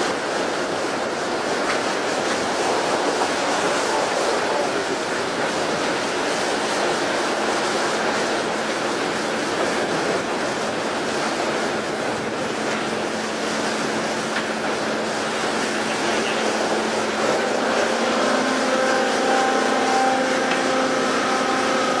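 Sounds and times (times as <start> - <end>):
water rushing along boat hull: 0.0 - 22.0.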